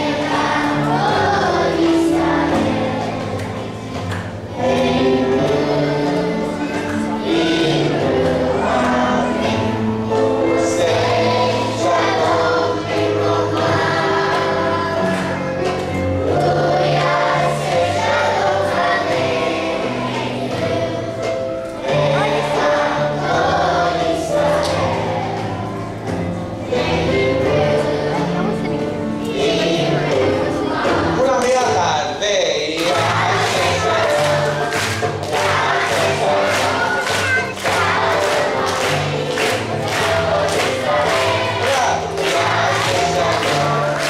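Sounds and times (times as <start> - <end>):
children singing: 0.0 - 44.0
instrumental accompaniment with bass: 0.0 - 44.0.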